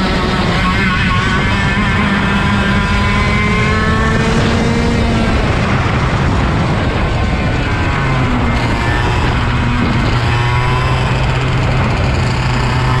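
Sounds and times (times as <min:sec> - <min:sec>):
kart engine running: 0:00.0 - 0:13.0.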